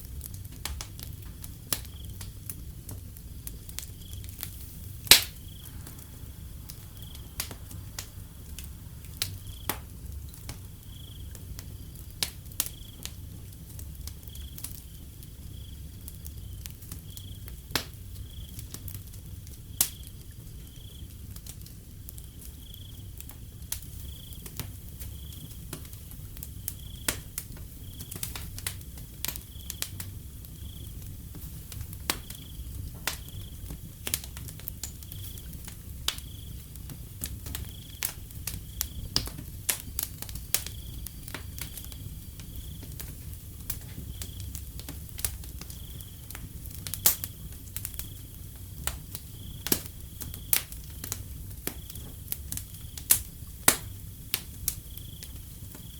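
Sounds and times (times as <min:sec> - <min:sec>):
wood fire crackling: 0:00.0 - 0:55.9
cricket chirping: 0:01.8 - 0:02.6, 0:03.2 - 0:18.8, 0:19.7 - 0:21.2, 0:22.2 - 0:55.9.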